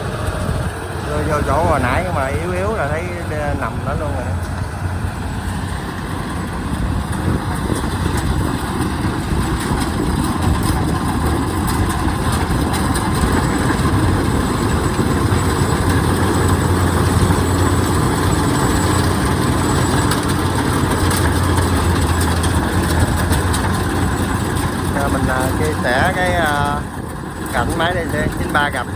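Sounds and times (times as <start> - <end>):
diesel engine under heavy load: 0.0 - 28.9.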